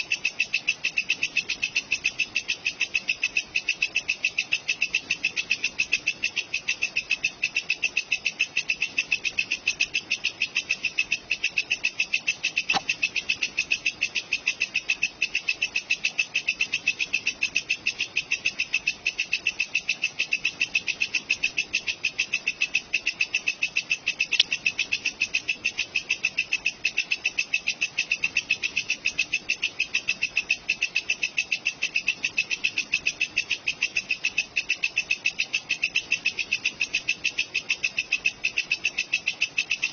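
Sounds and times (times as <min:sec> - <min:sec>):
bush cricket chirping: 0:00.0 - 0:39.9.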